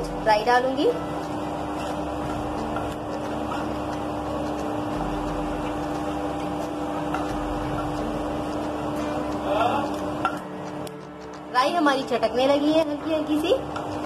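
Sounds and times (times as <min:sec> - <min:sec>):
seeds sizzling in hot oil: 0:00.0 - 0:14.0
steady hum: 0:00.0 - 0:14.0
wooden spatula stirring in pan: 0:00.0 - 0:14.0.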